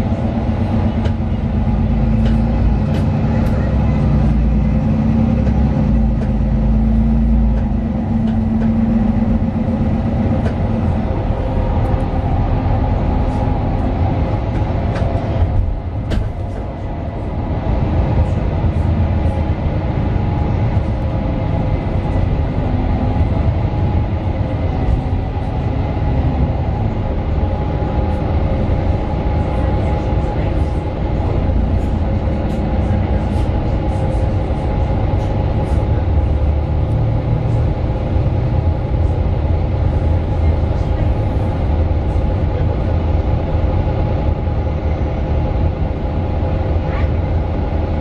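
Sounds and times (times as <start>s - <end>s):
bus body rattling ticks: 0.0s - 48.0s
bus diesel engine rumbling: 0.0s - 48.0s.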